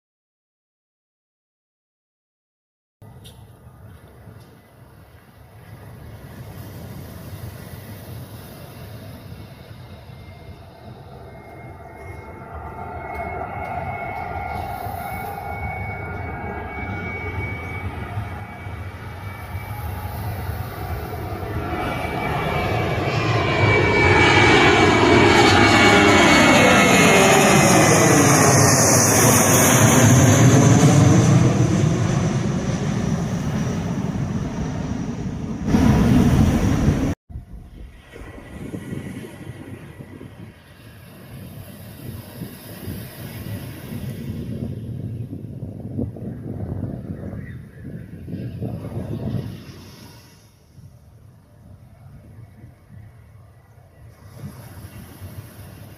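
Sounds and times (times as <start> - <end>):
jet airliner passing: 3.0 - 55.9.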